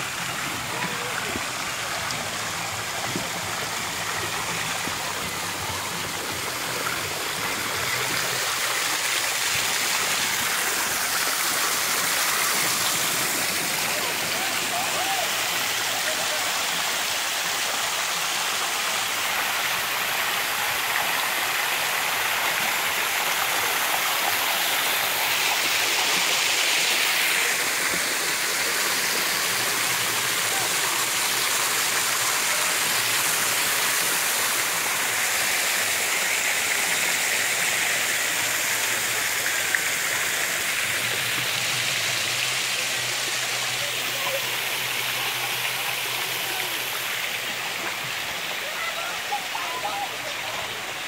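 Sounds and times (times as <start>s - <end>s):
small waterfall spilling: 0.0s - 51.0s
water rushing and splashing: 0.0s - 51.0s.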